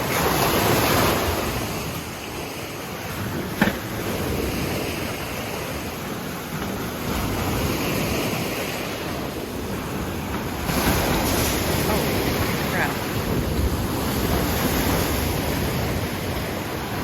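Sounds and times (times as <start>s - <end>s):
waves washing onto shore: 0.0s - 17.0s
wind buffeting microphone: 0.0s - 17.0s.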